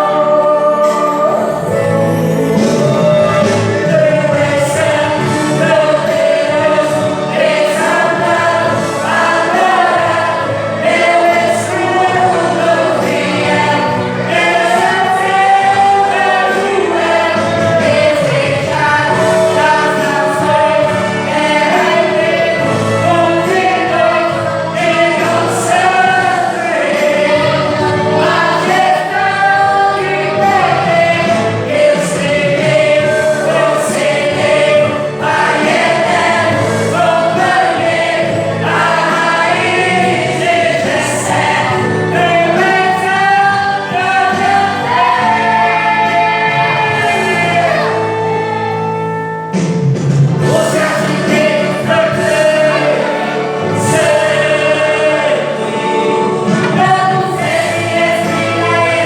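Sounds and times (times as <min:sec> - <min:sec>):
choir singing gospel song: 0:00.0 - 0:59.0
instrumental accompaniment: 0:00.0 - 0:59.0.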